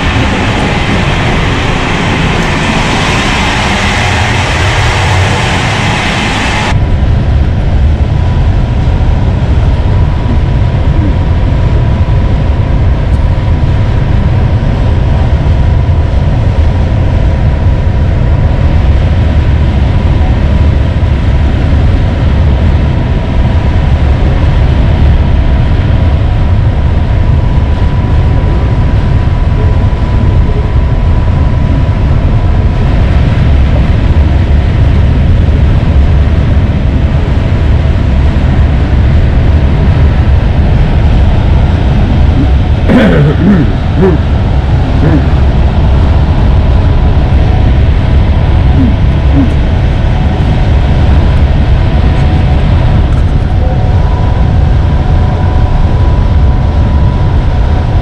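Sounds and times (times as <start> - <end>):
faint steady whine: 0.0 - 58.0
train rumble inside coach: 0.0 - 58.0.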